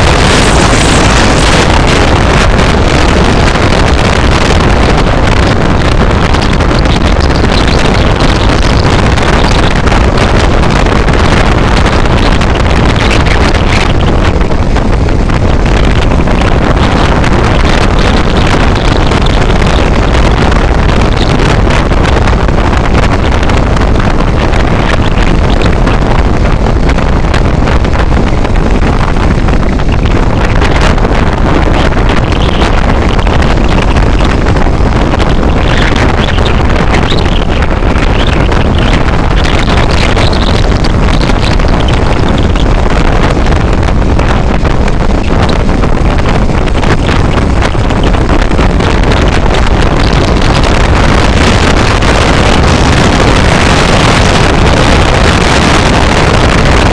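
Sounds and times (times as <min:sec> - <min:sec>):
moving vehicle on road: 0:00.0 - 0:56.9
wind rumble on microphone: 0:00.0 - 0:56.9.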